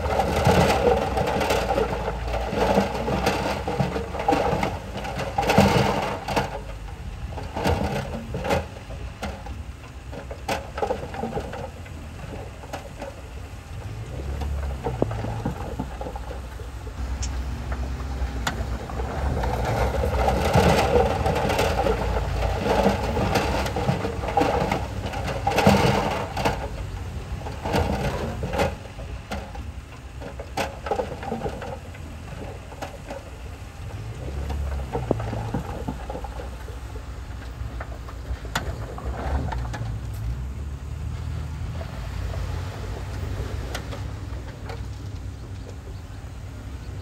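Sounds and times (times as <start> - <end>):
diesel machinery engine running: 0.0 - 47.0
metal clanks and knocks: 0.0 - 47.0.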